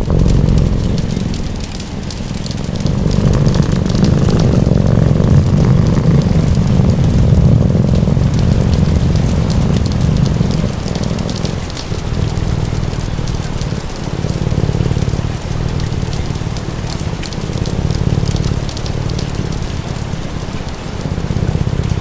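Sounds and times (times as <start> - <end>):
low rumble: 0.0 - 22.0
steady rain falling: 0.0 - 22.0
wood fire crackling: 0.0 - 22.0.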